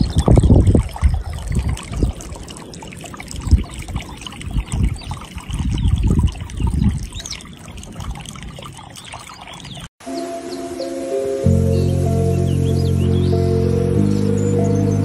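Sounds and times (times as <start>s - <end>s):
stream trickling and gurgling: 0.0s - 15.0s.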